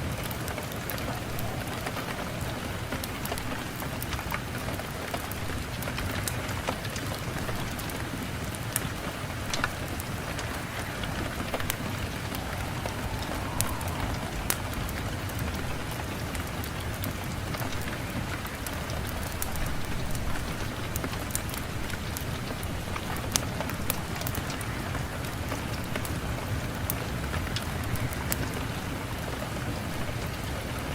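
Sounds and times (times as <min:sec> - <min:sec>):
fire crackling: 0:00.0 - 0:29.5
steady rain: 0:00.0 - 0:30.9.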